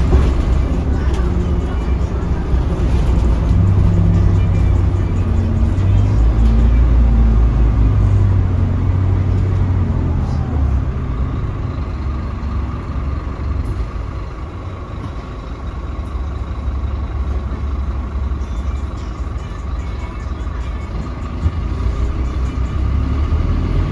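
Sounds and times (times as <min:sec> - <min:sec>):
bus engine rumbling: 0:00.0 - 0:23.9.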